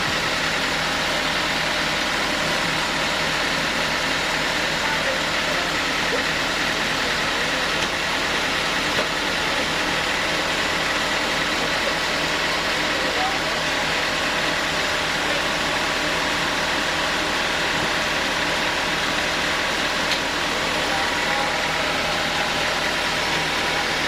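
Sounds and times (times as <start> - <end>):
sawmill machine running: 0.0 - 24.0.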